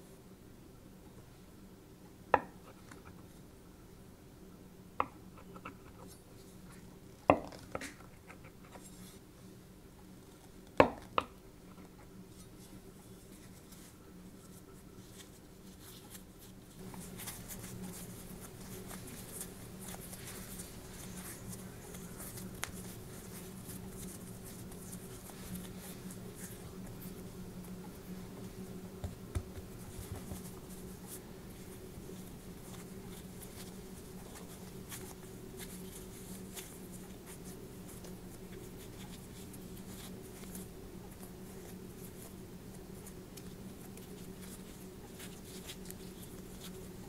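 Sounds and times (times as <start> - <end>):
hands folding dough rustle: 1.0 - 3.7, 4.6 - 47.0.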